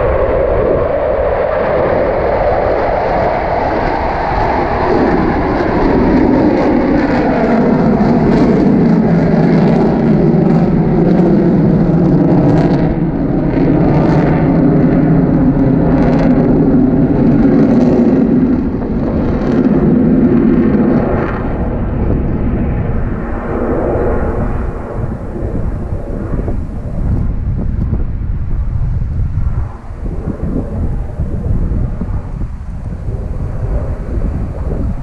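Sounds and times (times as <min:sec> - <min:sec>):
jet rumble overhead: 0:00.0 - 0:35.0.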